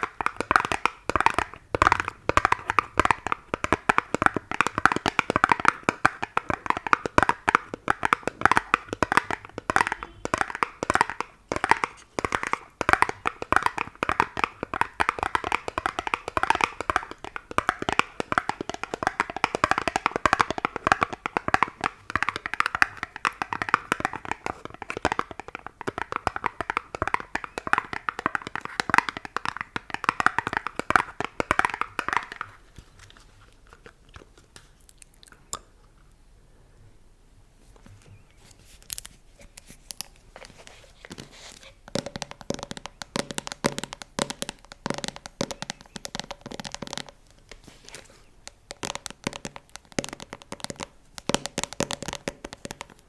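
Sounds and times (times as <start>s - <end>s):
rapid crisp tapping: 0.0s - 32.6s, 41.7s - 53.0s.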